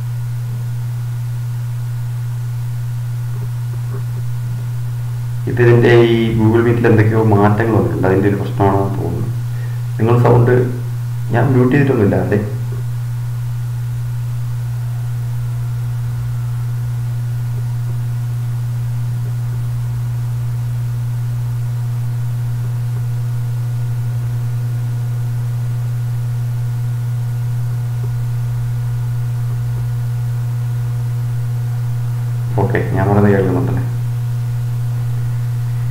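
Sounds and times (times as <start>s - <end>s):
low electrical hum: 0.0s - 35.9s.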